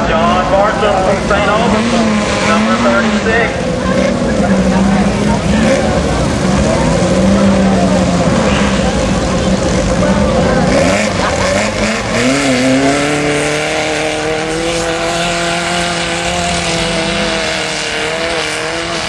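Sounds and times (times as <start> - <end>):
buggy engine at full throttle: 0.0 - 19.0.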